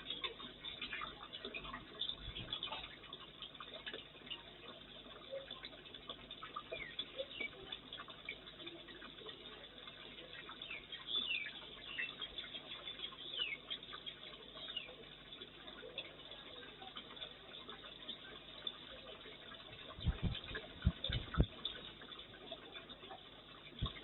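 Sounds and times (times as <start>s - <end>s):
faint ticks pattering: 0.0s - 24.0s
small birds chirping: 0.0s - 24.0s.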